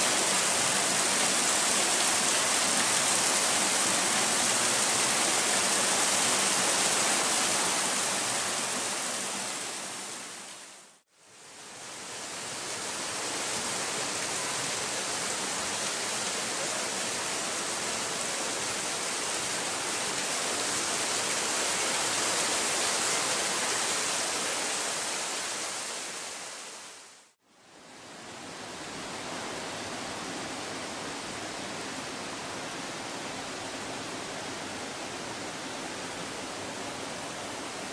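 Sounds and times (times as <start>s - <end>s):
mountain stream rushing: 0.0s - 37.9s.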